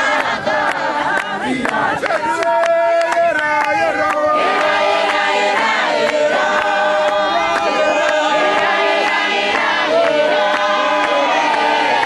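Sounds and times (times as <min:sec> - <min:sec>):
congregation singing: 0:00.0 - 0:12.0.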